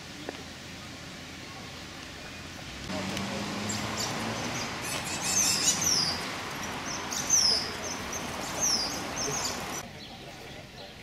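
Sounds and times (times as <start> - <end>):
steady background hiss: 0.0 - 11.0
songbird chirping: 0.2 - 11.0.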